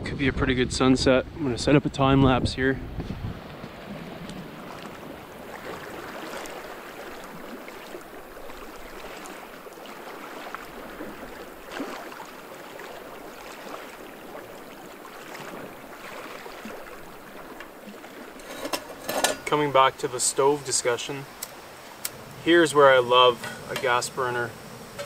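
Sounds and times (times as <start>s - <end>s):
wind: 0.0s - 25.0s
small waves on rocky shore: 2.9s - 25.0s.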